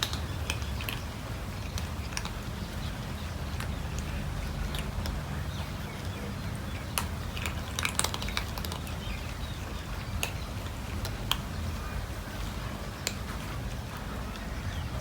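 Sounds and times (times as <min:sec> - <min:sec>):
cats chewing food: 0:00.0 - 0:15.0.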